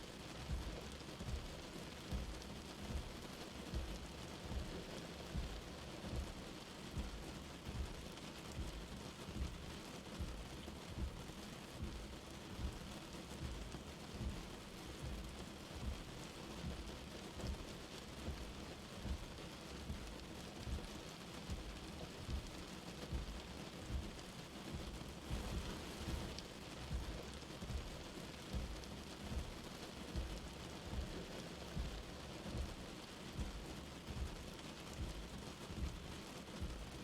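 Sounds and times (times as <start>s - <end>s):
light rain pattering: 0.0s - 37.0s.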